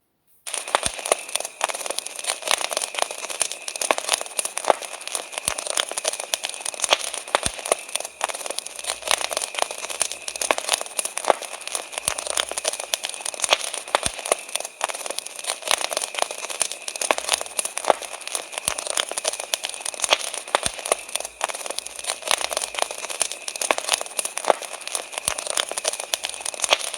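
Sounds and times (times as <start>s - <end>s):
campfire crackling and popping: 0.5s - 26.9s.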